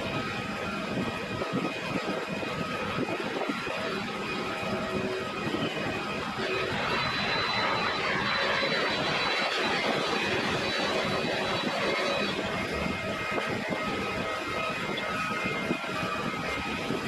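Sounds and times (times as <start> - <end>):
high engine whine: 0.0 - 17.0
jet engines rushing: 0.0 - 17.0.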